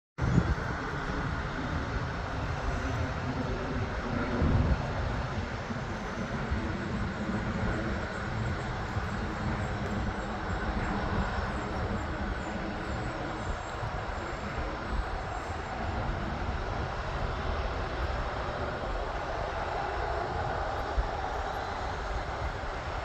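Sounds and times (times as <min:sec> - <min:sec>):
jet engine rumble: 0:00.2 - 0:23.0.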